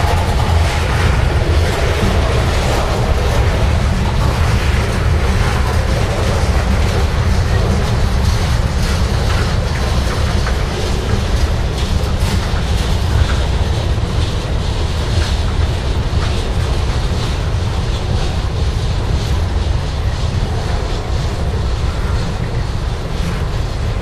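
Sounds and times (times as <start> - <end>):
freight train rumbling past: 0.0 - 24.0
wheels clicking over rails: 0.0 - 24.0.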